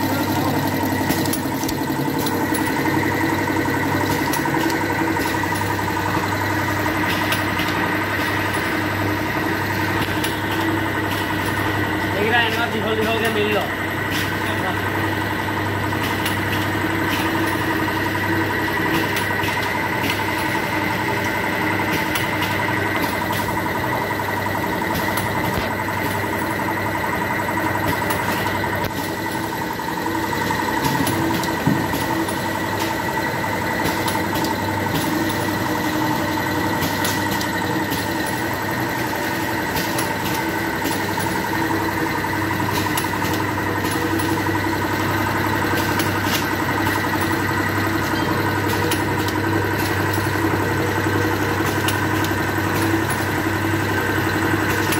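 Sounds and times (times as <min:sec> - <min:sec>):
machine whine: 0:00.0 - 0:54.9
packing machine humming: 0:00.0 - 0:54.9.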